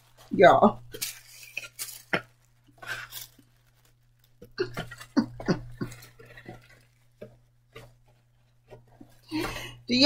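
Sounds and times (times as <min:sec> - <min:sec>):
paper crackles: 0:00.0 - 0:09.3
paper wrapping rustling: 0:00.0 - 0:09.5.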